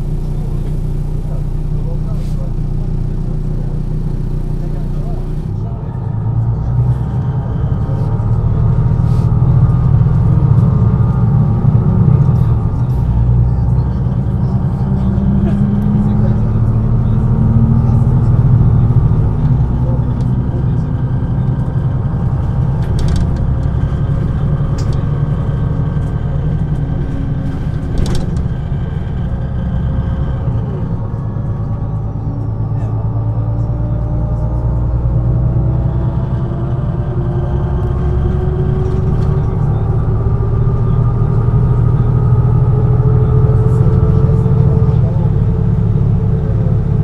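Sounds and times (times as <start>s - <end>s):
bus diesel engine under load: 0.0s - 47.0s.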